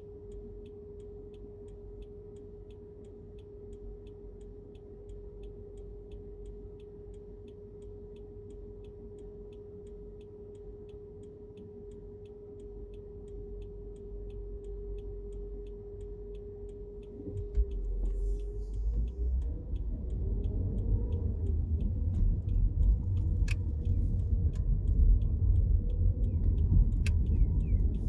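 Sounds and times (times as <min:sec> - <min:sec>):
car cabin hum and rumble: 0:00.0 - 0:28.0
car turn signal ticking: 0:00.0 - 0:28.0.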